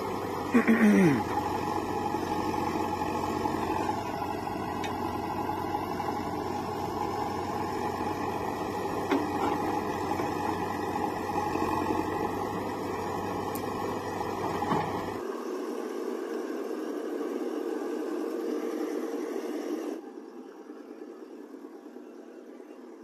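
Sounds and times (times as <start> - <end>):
diesel engines running: 0.0 - 23.0.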